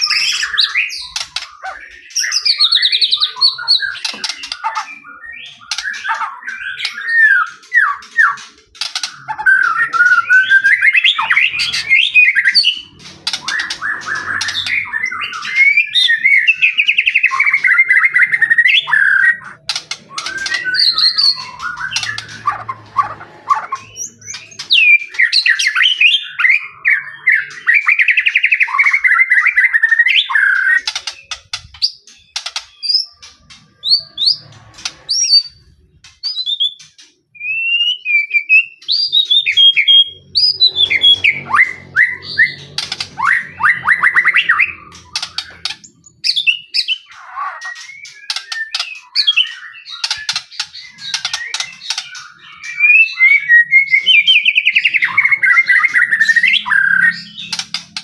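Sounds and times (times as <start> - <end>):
bird chips and clicks: 0.0 - 26.8, 27.4 - 38.2, 38.9 - 58.0
songbird singing varied song: 9.0 - 58.0.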